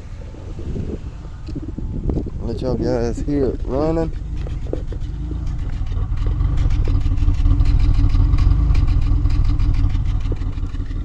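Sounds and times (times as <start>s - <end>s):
car engine idling with a miss: 0.0s - 11.0s.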